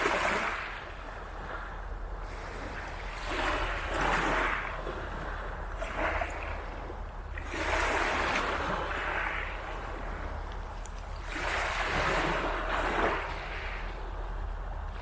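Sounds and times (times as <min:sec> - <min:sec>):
small waves washing onto beach: 0:00.0 - 0:15.0
steady low rumble: 0:00.0 - 0:15.0.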